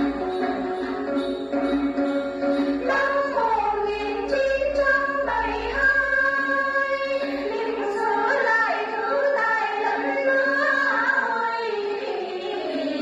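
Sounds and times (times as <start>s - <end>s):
long-necked lutes: 0.0s - 13.0s
women singing together: 0.0s - 13.0s.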